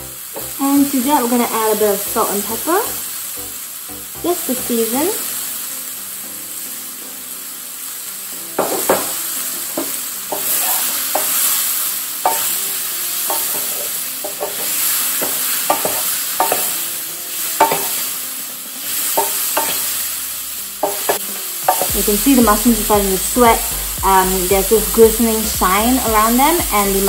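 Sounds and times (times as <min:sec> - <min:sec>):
mushrooms sizzling in butter: 0:00.0 - 0:27.0.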